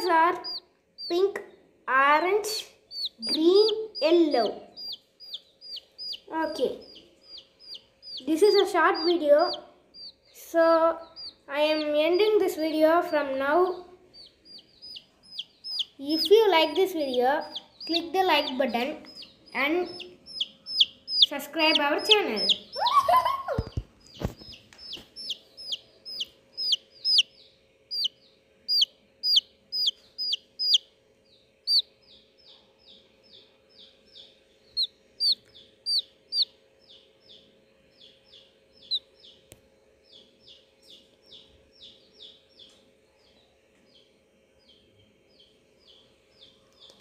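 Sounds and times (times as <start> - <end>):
baby chicks peeping: 0.0 - 47.0
steady low hum: 0.0 - 47.0.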